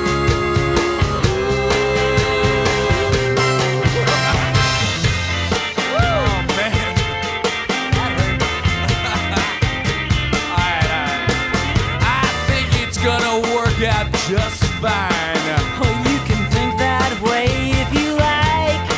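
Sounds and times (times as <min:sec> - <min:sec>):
rock music with singing: 0:00.0 - 0:18.9.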